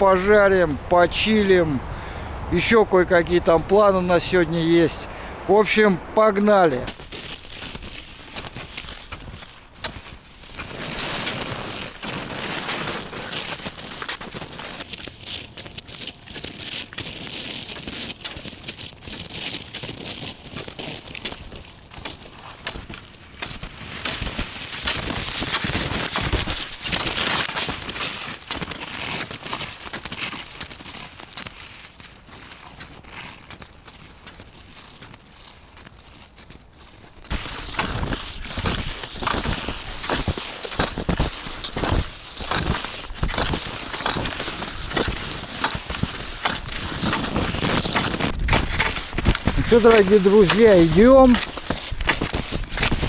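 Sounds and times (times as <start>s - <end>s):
skis crunching over snow: 0.0s - 53.0s.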